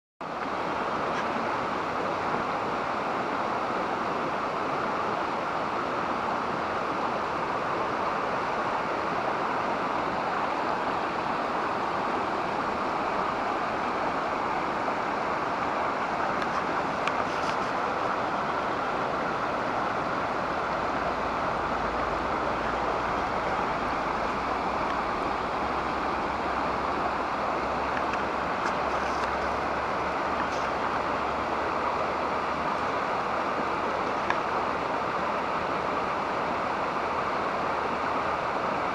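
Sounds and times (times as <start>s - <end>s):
stream babbling: 0.2s - 38.9s.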